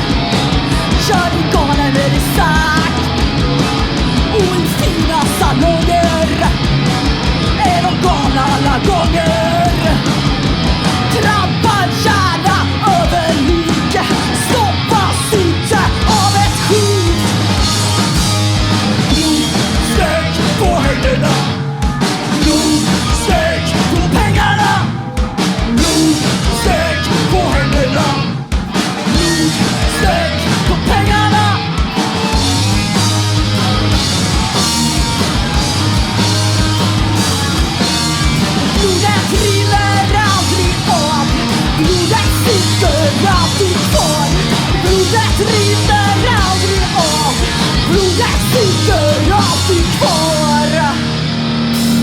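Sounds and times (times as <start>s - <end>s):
punk rock band playing live: 0.0s - 52.0s.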